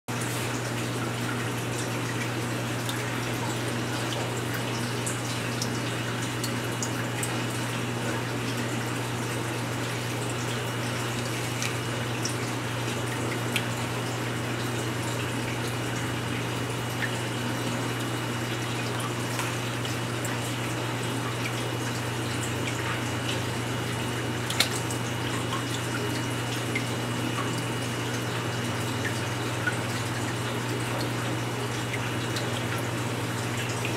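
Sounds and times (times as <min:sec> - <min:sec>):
pump hum: 0:00.1 - 0:33.9
running water: 0:00.1 - 0:33.9
small drips: 0:00.2 - 0:33.9.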